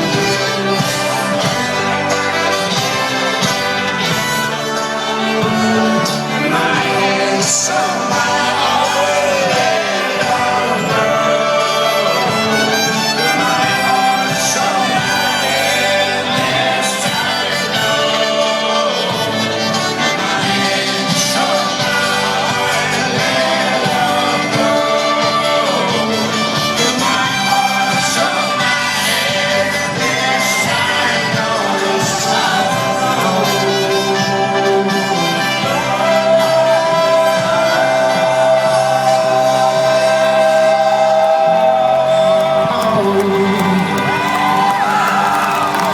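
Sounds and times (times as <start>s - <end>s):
folk-rock band playing: 0.0s - 45.9s
person singing: 0.0s - 45.9s.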